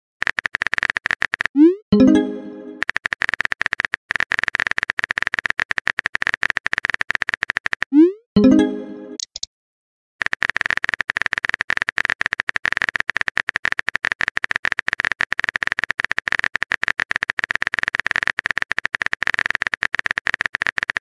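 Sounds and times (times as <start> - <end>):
phone keyboard typing clicks: 0.2 - 2.2, 2.8 - 7.9, 10.2 - 21.0.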